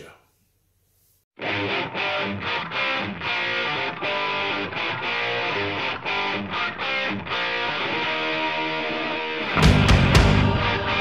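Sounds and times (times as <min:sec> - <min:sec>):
rock music with distorted guitar: 0:01.4 - 0:11.0.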